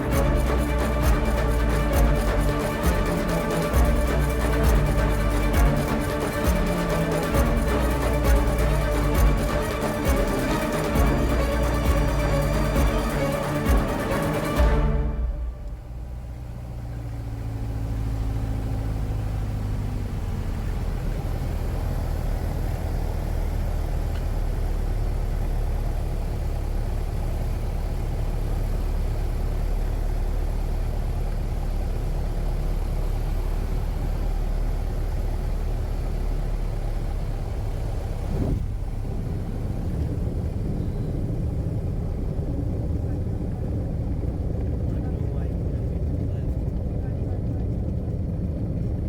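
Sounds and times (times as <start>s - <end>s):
propeller plane engine droning: 0.0s - 49.0s.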